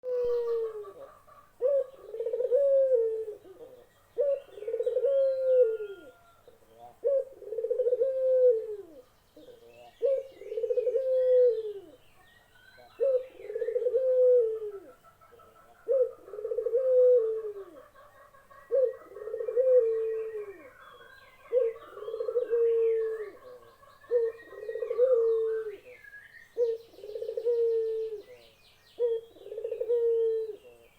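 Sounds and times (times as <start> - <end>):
small birds chirping: 0.0 - 8.0, 8.6 - 30.9
dove cooing: 0.0 - 12.2, 12.8 - 30.9.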